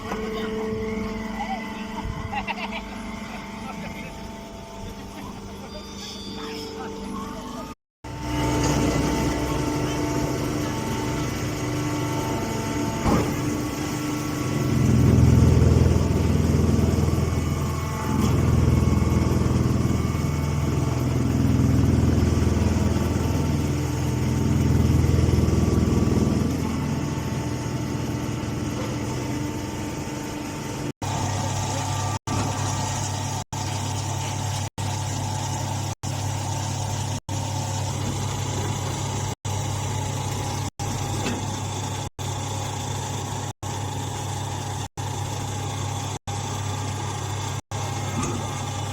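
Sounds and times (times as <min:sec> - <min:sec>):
baling machine motor humming: 0:08.1 - 0:48.9.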